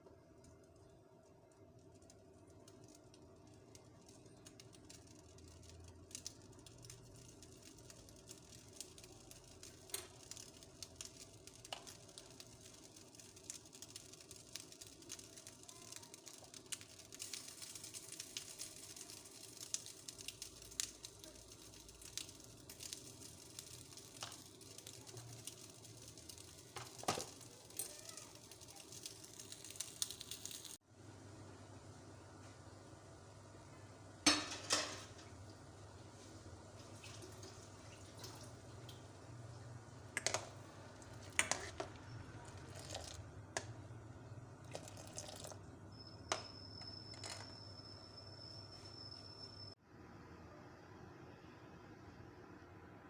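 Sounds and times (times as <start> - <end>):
water heating in a pot hiss: 0.0 - 50.5.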